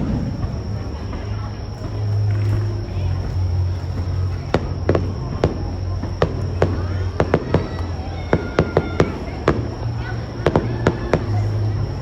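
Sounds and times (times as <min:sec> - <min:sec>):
fireworks bangs and pops: 0:00.0 - 0:09.8.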